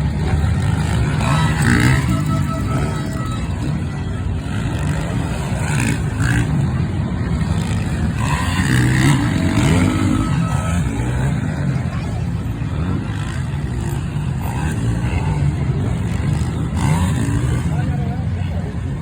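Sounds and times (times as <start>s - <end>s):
motocross bikes revving: 0.0s - 19.0s.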